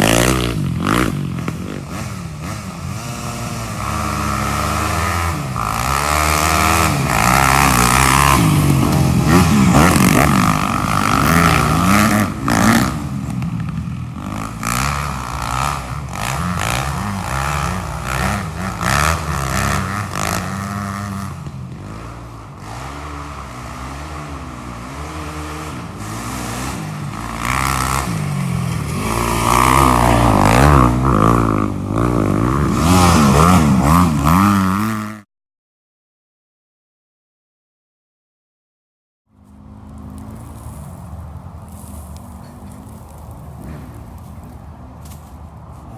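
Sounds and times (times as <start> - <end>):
dirt bike and quad engines revving: 0.0 - 35.3, 39.4 - 45.9.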